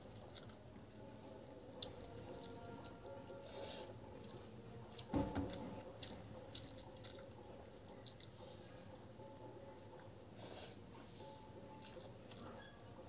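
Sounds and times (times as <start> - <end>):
wet chewing: 0.0 - 5.2, 5.8 - 10.8, 11.7 - 12.8.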